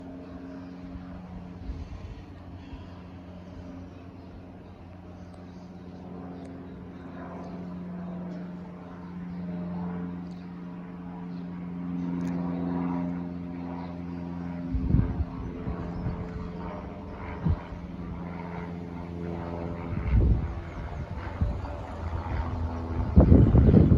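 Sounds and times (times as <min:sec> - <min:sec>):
light aircraft engine drone: 0:00.0 - 0:23.9.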